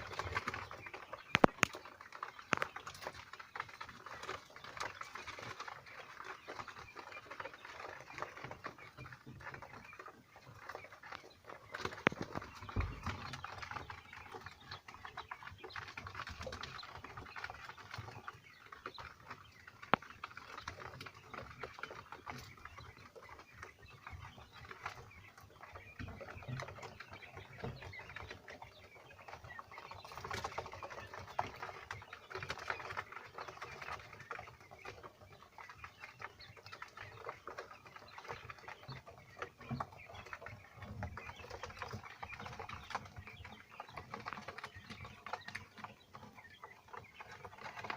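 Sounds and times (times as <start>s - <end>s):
chicks cheeping: 0.0s - 47.9s
small taps and scratches: 0.0s - 47.9s.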